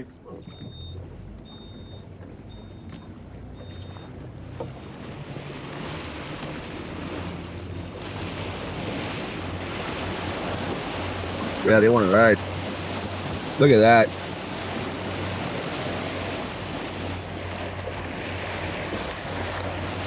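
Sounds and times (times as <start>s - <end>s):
boat engine running: 0.0s - 20.0s
water rushing along hull: 0.0s - 20.0s
wind: 0.0s - 20.0s.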